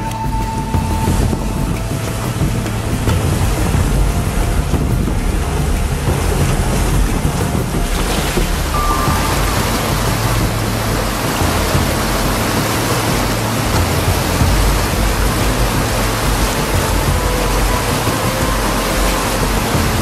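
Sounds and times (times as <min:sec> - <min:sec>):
rapids rushing over boulders: 0:00.0 - 0:20.0.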